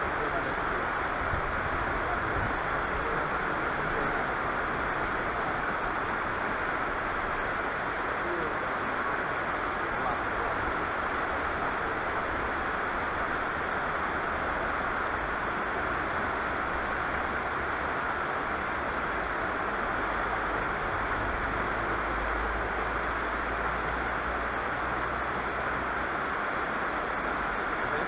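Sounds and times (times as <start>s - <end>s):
river water rushing over weir: 0.0s - 28.0s.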